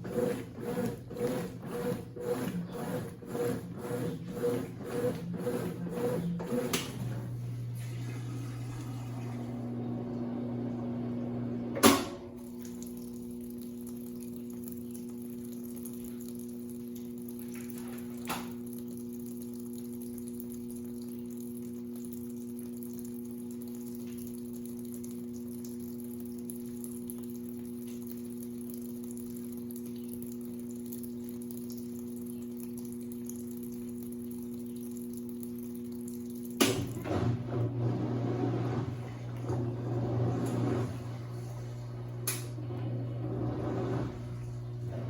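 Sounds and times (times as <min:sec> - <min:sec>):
water moving in machine: 0:00.0 - 0:28.4, 0:32.4 - 0:45.0
washing machine hum: 0:00.0 - 0:45.0.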